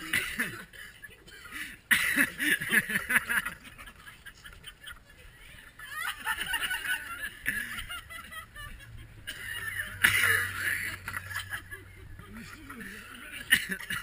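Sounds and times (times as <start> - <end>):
people laughing and calling out: 0.0 - 14.0.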